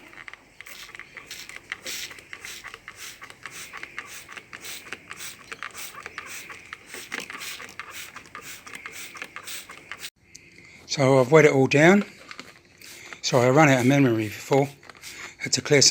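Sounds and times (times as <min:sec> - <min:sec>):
spray bottle squirting water: 0:00.0 - 0:10.2, 0:12.8 - 0:15.4.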